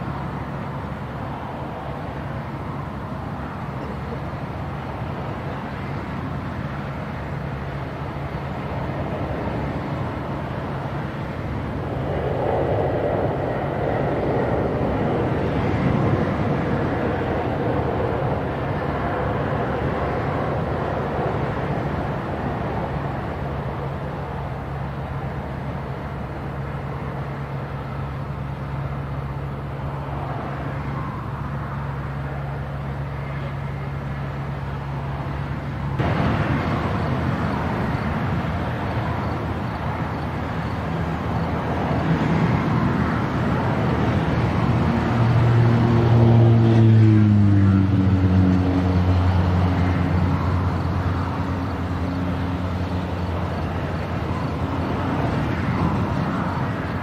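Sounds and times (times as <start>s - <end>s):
engine roaring: 0.0s - 57.0s.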